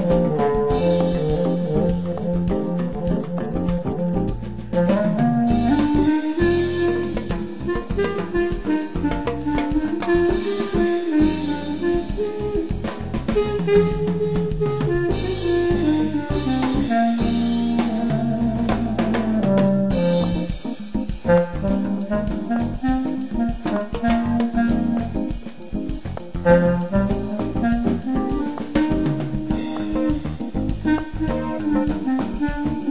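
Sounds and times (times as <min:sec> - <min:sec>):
bass: 0:00.0 - 0:32.9
clarinet melody: 0:00.0 - 0:32.9
drum kit: 0:00.0 - 0:32.9.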